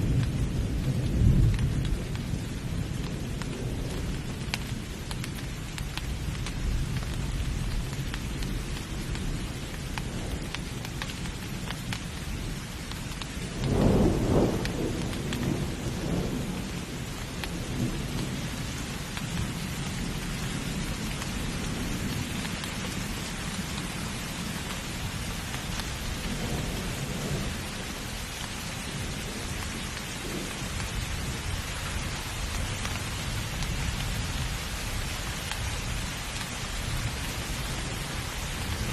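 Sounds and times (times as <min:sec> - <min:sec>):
thunder rumbling: 0:00.0 - 0:05.6, 0:12.4 - 0:38.9
heavy rain: 0:00.0 - 0:38.9.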